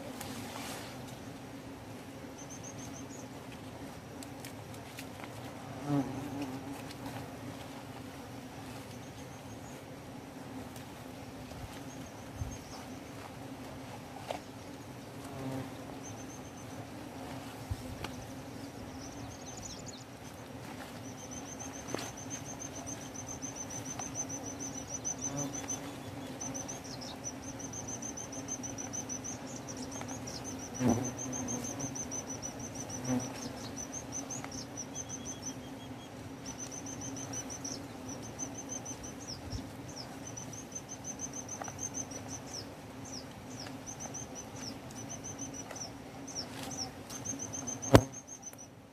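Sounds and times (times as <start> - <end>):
branches and leaves rustling: 0.0 - 48.8.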